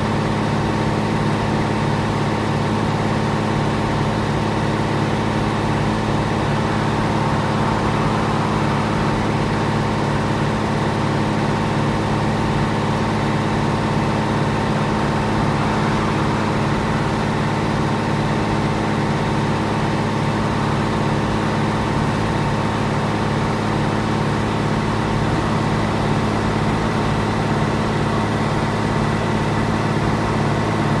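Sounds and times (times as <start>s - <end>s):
bus diesel engine idling: 0.0s - 31.0s.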